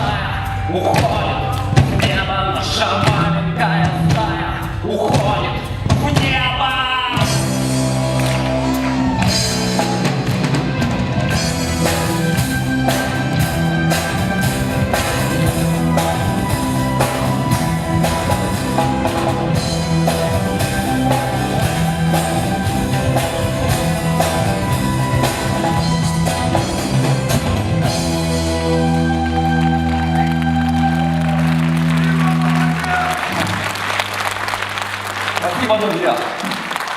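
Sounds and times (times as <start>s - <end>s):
drum kit beat: 0.0s - 33.7s
live rock band playing: 0.0s - 35.8s.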